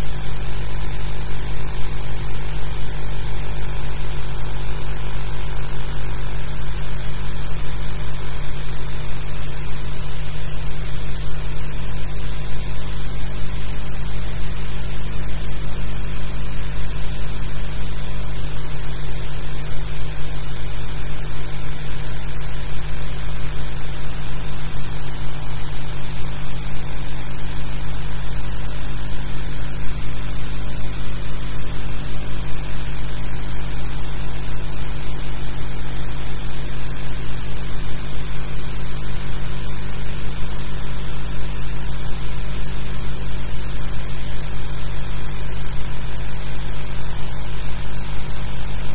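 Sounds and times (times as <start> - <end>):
electrical hum and hiss: 0.0 - 48.9.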